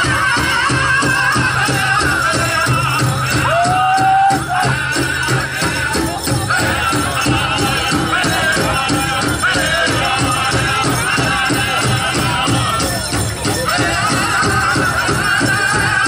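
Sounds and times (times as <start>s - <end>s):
bells jingling: 0.0s - 16.0s
high-pitched singing: 0.0s - 16.0s
large drum beating fast: 0.0s - 16.0s.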